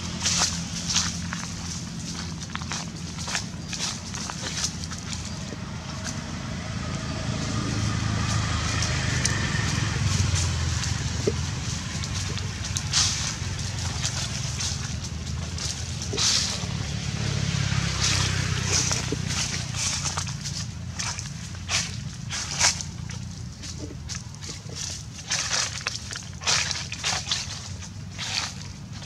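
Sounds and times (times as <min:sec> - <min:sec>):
footsteps on dry leaves: 0:00.0 - 0:29.0
low steady rumble: 0:00.0 - 0:29.0.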